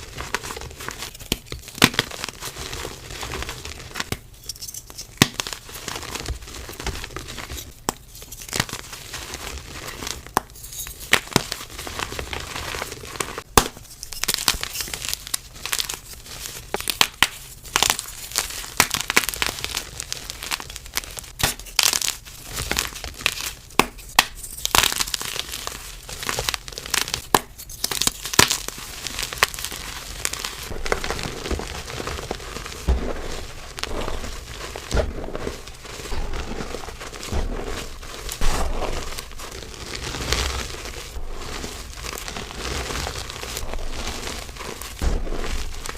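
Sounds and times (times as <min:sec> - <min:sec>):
chalk crunching and crackling: 0:00.0 - 0:45.9.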